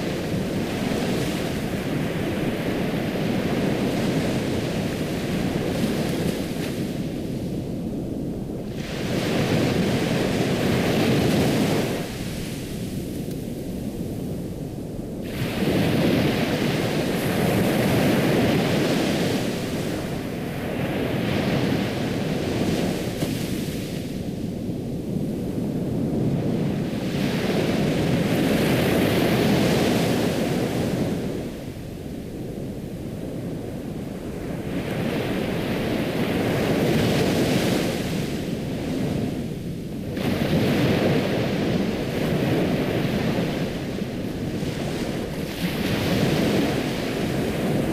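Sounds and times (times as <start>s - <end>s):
ocean waves washing onto shore: 0.0s - 47.9s.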